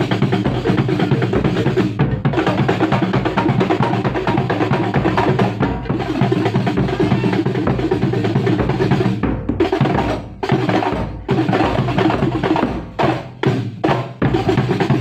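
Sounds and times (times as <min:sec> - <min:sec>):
frame drums playing fast rhythm: 0:00.0 - 0:15.0.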